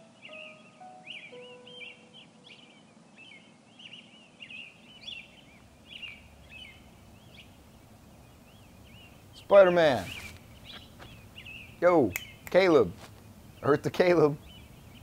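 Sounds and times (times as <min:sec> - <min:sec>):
soft steady hiss: 0:00.0 - 0:15.0
woodland birds chirping: 0:00.0 - 0:15.0.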